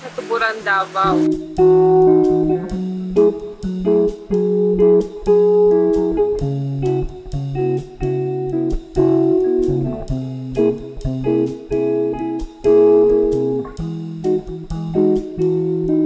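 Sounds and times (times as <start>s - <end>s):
strummed guitar music: 0.3s - 16.0s.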